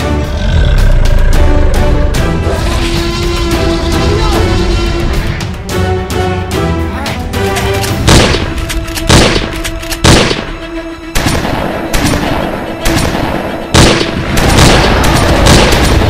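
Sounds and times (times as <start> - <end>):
dramatic film music: 0.0 - 16.0.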